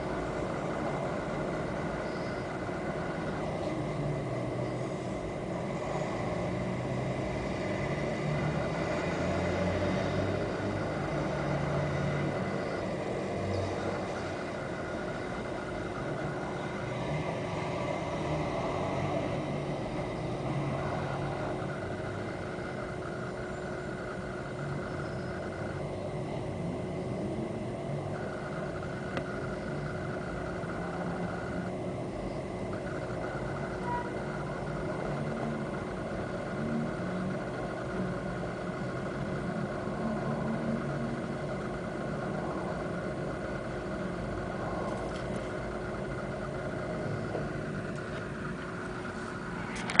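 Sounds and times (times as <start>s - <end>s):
steady mechanical hum: 0.0s - 50.0s.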